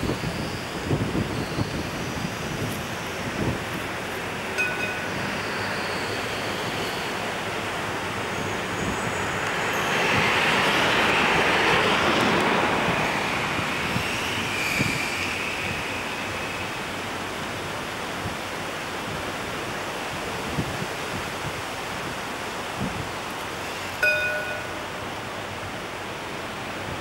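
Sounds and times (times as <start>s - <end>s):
hiss of traffic and wind: 0.0s - 27.0s.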